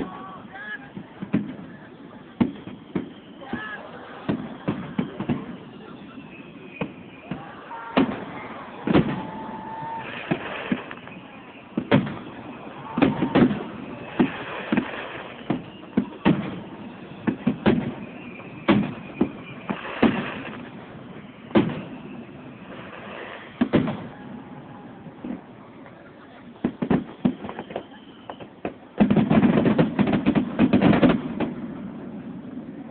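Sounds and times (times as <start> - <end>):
fireworks bursting with echoes: 0.0 - 32.9.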